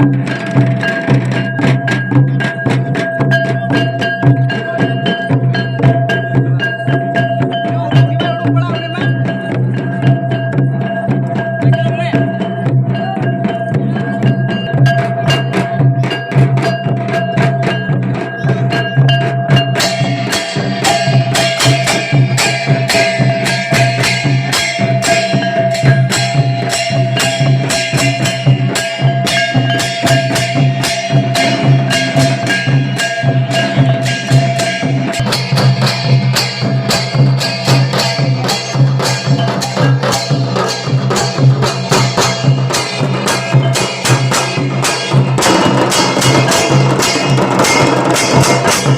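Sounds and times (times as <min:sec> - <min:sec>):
fast drum and percussion beats: 0:00.0 - 0:48.9.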